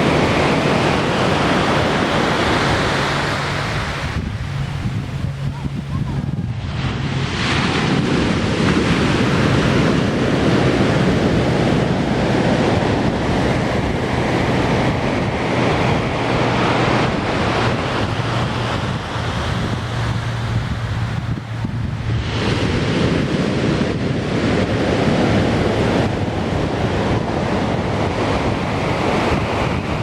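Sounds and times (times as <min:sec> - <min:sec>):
ocean surf breaking: 0:00.0 - 0:30.0
wind rumbling on microphone: 0:00.0 - 0:30.0.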